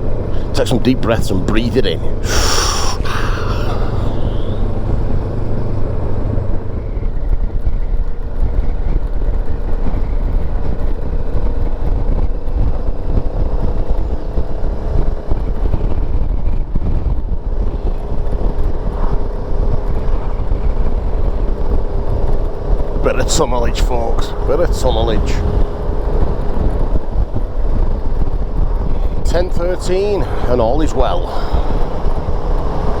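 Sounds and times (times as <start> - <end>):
wind rumble on microphone: 3.7 - 33.0.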